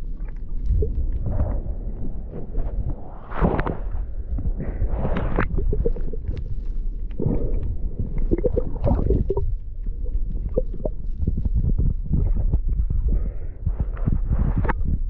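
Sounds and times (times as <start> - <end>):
water gurgling and sloshing: 0.0 - 14.8
low rumble: 0.0 - 15.0.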